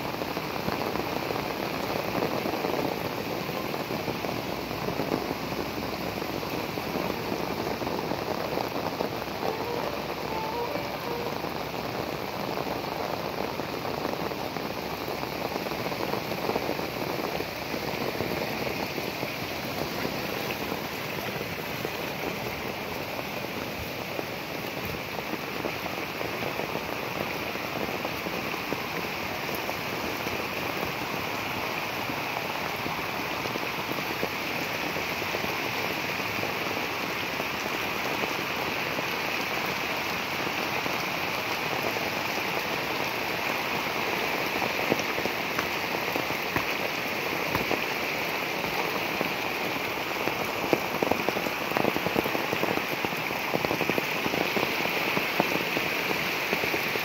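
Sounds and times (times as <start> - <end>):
heavy rain on water: 0.0 - 57.0.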